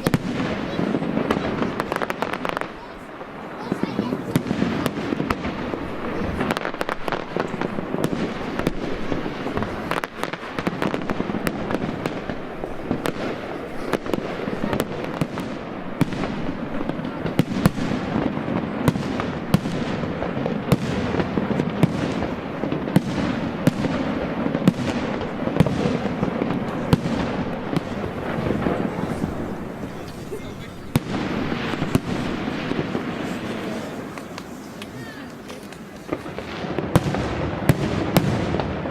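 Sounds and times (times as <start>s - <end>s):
rumble of explosions: 0.0s - 34.6s, 35.7s - 38.9s
fireworks bangs and crackling: 0.0s - 38.9s.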